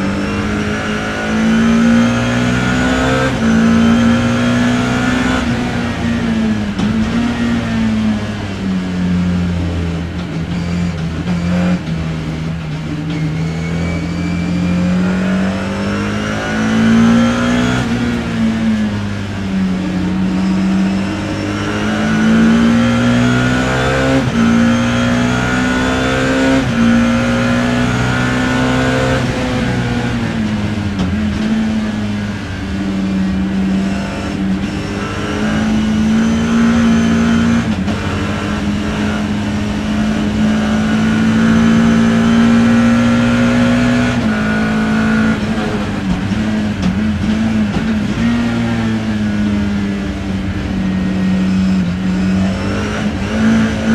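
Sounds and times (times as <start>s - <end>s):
racing car engine accelerating: 0.0s - 53.9s.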